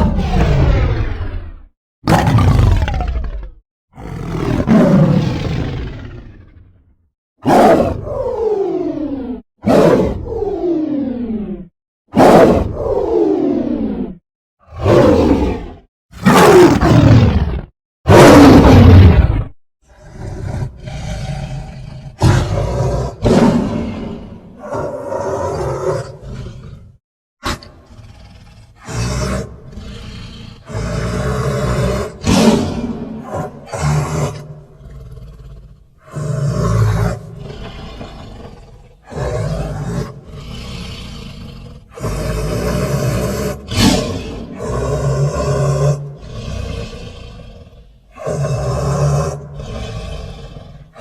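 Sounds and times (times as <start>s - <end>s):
beast roaring: 0.0s - 51.0s.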